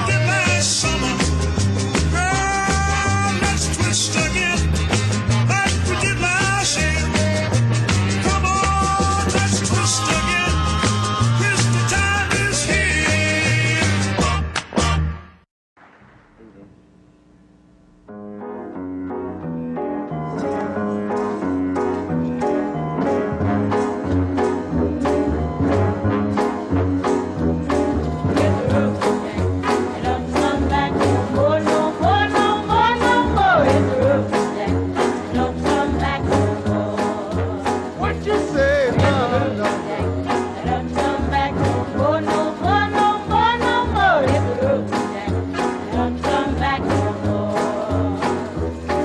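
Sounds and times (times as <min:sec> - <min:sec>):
upbeat song with bass line: 0:00.0 - 0:15.4, 0:18.0 - 0:49.0.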